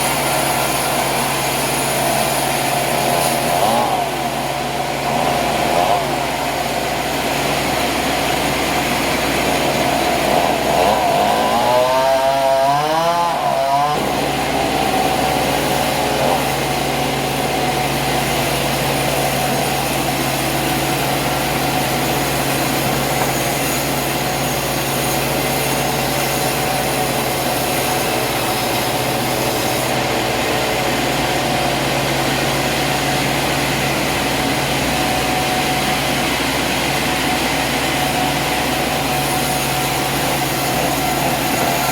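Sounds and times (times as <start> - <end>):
engine running under load: 0.0 - 41.9
saw cutting through wood: 0.0 - 41.9.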